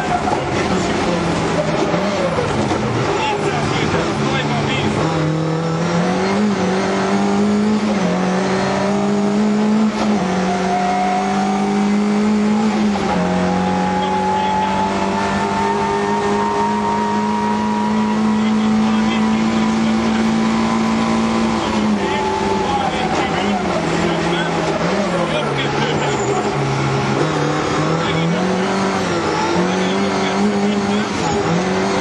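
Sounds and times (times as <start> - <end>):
rally car engine at high revs: 0.0 - 32.0.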